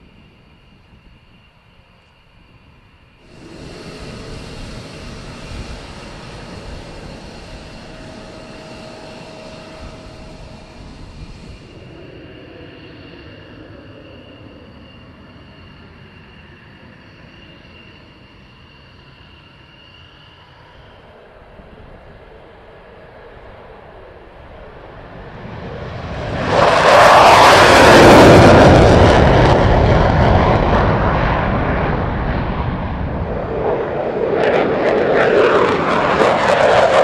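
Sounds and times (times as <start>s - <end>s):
high jet whine: 0.0s - 37.0s
jet engine running: 0.0s - 37.0s.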